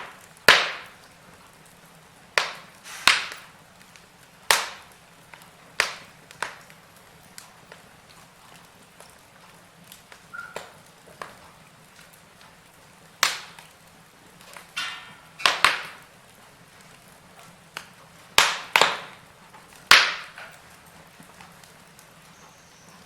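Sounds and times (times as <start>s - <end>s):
burning logs popping: 0.0s - 23.0s
faint steady hiss: 0.0s - 23.0s
wood fire crackling: 0.0s - 23.0s.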